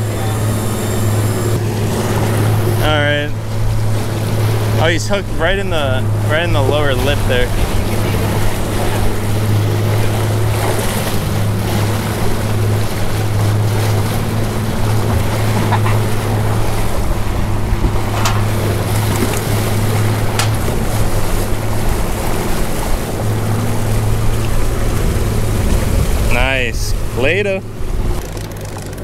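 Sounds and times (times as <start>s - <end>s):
boat engine humming: 0.0s - 29.0s
wake water rushing: 0.0s - 29.0s
wind on microphone: 0.0s - 29.0s.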